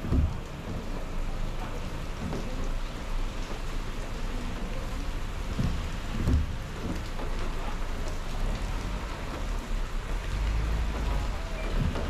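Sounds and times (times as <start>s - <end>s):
moving car rumble: 0.0s - 12.0s
rain pattering on car bonnet: 0.0s - 12.0s.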